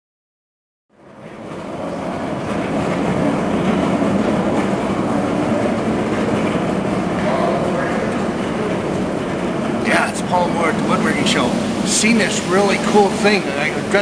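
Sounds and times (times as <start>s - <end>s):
busy exhibition hall din: 1.0s - 14.0s.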